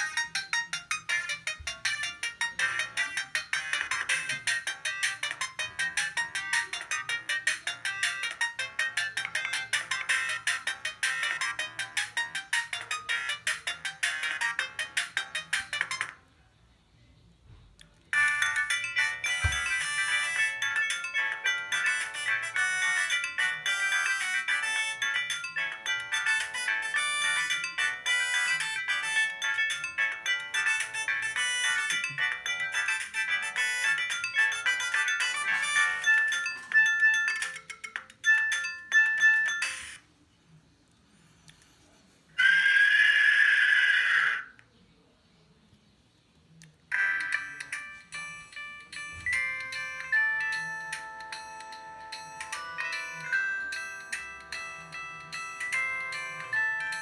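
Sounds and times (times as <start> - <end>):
phone ringtone melody: 0.0 - 16.2, 18.1 - 40.1, 46.9 - 57.0.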